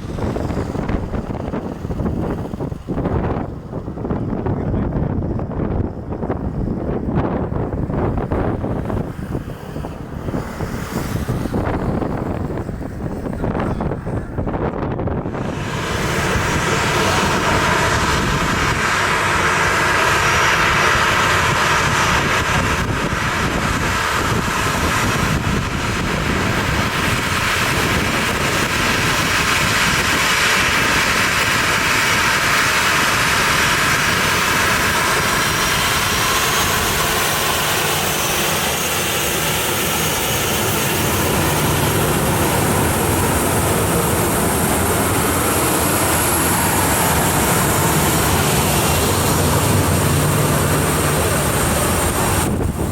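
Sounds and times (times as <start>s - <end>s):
jet engines running: 0.0s - 52.9s.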